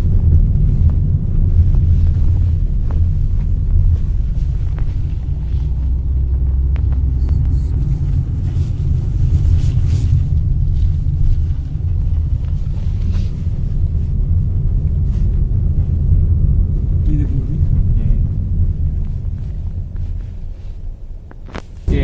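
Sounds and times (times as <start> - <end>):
car driving from inside cabin: 0.0 - 22.0.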